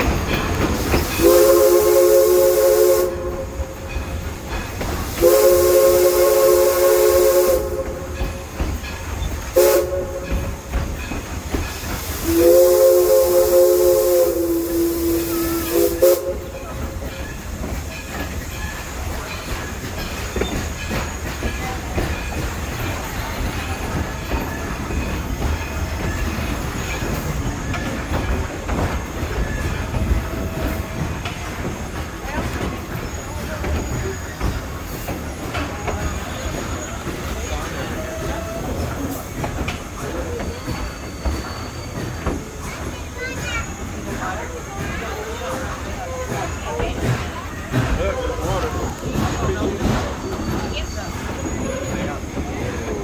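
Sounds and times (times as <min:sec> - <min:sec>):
steam hissing: 0:00.0 - 0:53.0
train rumble and rail clatter: 0:00.0 - 0:53.0
steam locomotive chime whistle: 0:00.1 - 0:04.4, 0:05.0 - 0:28.5, 0:32.7 - 0:53.0.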